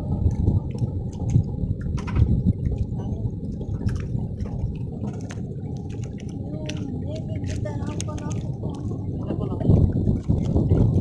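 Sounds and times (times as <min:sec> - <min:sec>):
river water splashing around boat: 0:00.0 - 0:11.0
wind rumble on microphone: 0:00.0 - 0:11.0.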